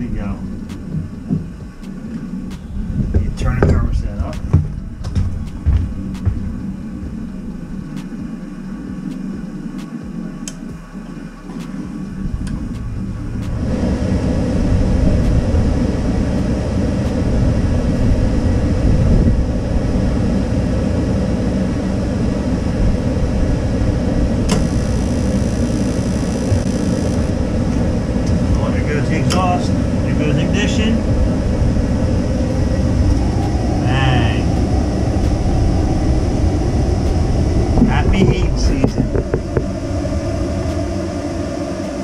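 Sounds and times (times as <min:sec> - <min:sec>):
boiler burners rumbling: 0:00.0 - 0:42.0.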